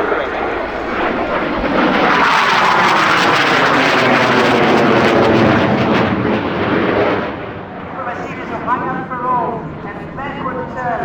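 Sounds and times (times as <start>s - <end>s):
jet passing by: 0.0s - 11.0s.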